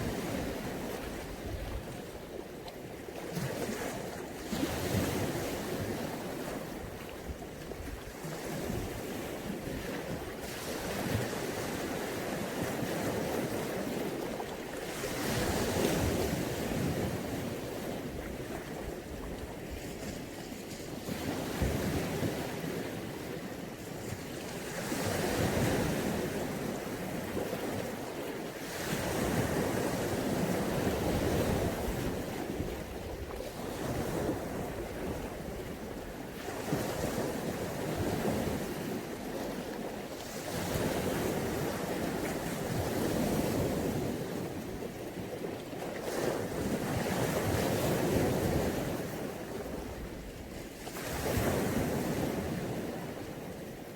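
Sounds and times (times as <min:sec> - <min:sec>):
sea waves breaking on shore: 0:00.0 - 0:53.9.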